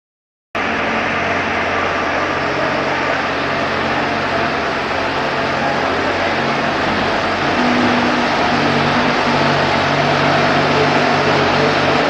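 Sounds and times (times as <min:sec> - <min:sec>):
loader engine running: 0:00.6 - 0:12.0.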